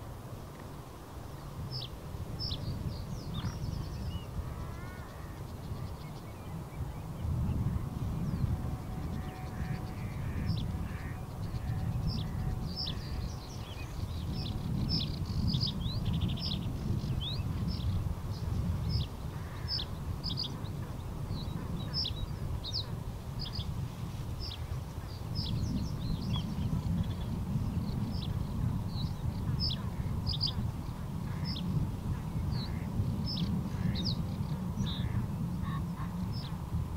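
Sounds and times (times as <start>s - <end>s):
bird singing chirping song: 1.4s - 23.7s, 24.4s - 36.6s.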